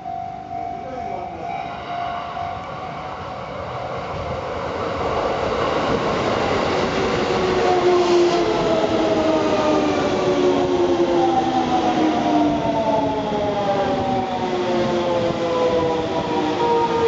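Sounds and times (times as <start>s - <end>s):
train wheels rumbling on rails: 0.8s - 17.0s.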